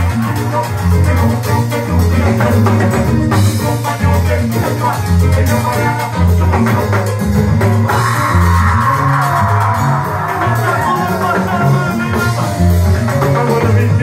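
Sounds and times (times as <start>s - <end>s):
bass line: 0.0s - 14.0s
drum kit: 0.0s - 14.0s
electric guitar: 0.0s - 14.0s
keyboards: 0.0s - 14.0s
person singing: 0.0s - 14.0s.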